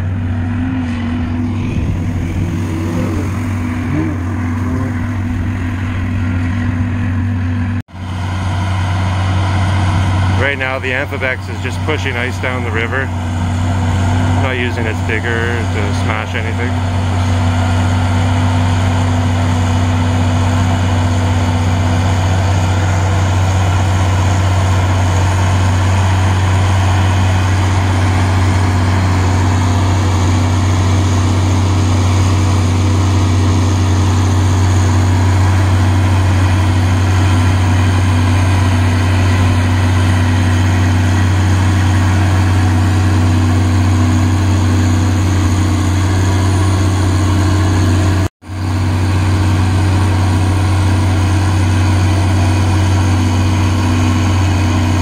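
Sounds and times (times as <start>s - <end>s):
boat engine low hum: 0.0s - 55.0s.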